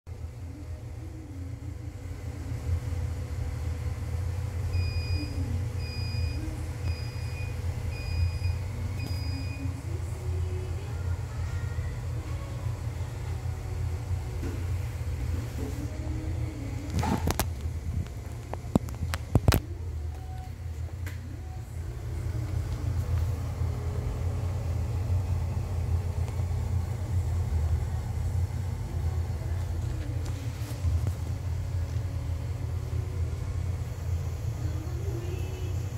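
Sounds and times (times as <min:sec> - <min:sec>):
faint hum: 0:00.1 - 0:35.9.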